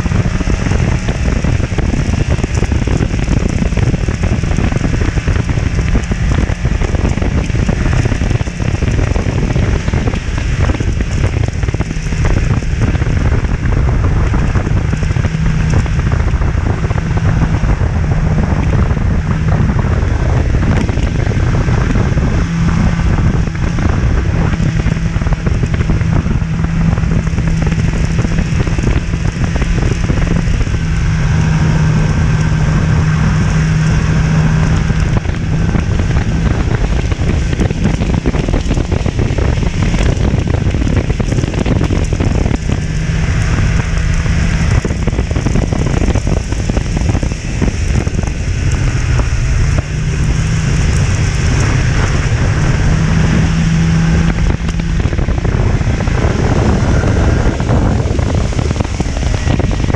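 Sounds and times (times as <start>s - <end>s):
snowmobile engine droning: 0.0s - 59.9s
wind on microphone: 0.0s - 59.9s.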